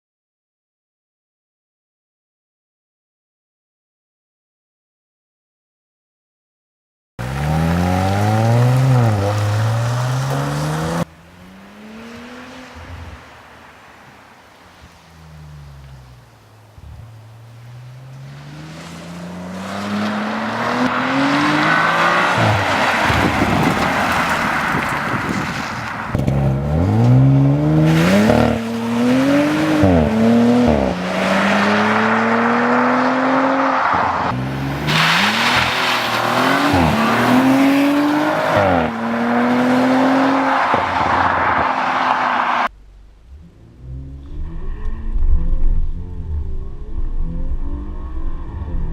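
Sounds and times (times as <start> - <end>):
car engine accelerating hard: 7.2 - 13.7, 15.1 - 25.5, 26.1 - 48.9.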